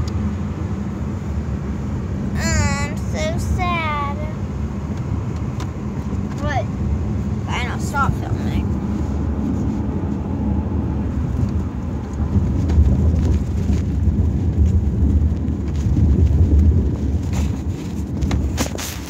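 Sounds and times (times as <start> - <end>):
loud low rumbling: 2.1 - 18.6.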